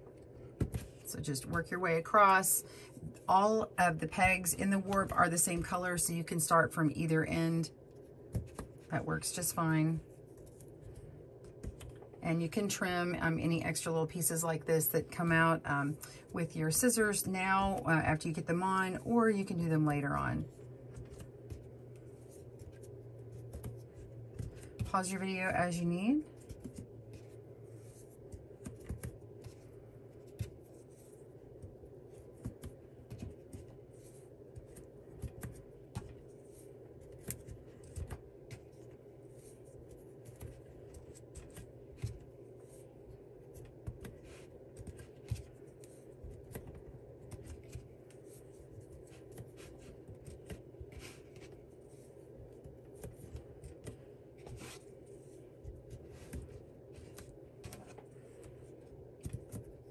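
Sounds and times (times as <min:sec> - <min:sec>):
steady low hum: 0:00.0 - 0:59.9
clicks and rustles of cotton loops: 0:07.9 - 0:59.9.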